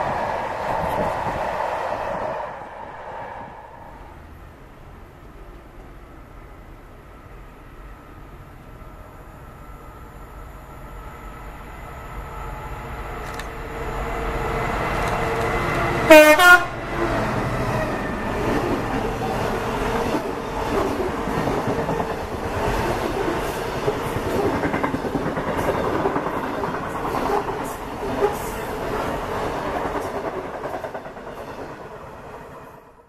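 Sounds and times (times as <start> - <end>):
freight train passing: 0.0 - 33.0.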